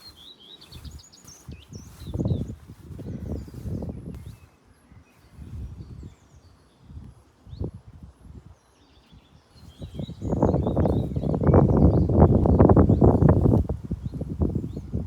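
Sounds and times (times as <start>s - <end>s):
small birds chirping: 0.0s - 15.0s
wind gusts on microphone: 0.0s - 15.0s.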